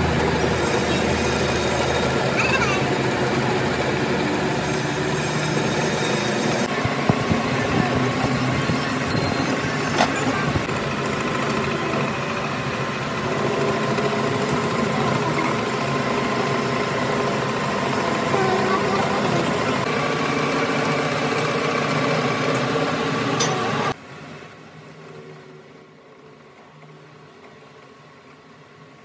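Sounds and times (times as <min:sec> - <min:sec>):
metal lathe running: 0:00.0 - 0:24.0.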